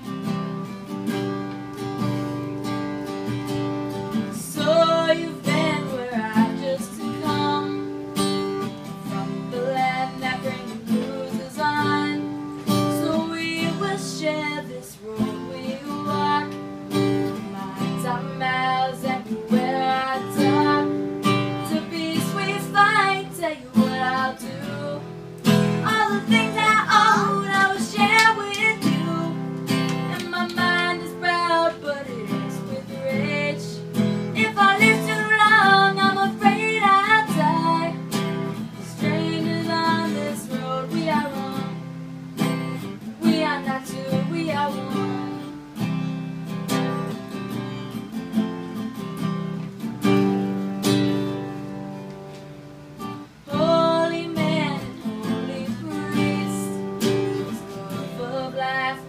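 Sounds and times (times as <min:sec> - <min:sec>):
acoustic guitar strumming: 0:00.0 - 0:59.0
woman singing: 0:03.2 - 0:45.9, 0:53.0 - 0:59.0.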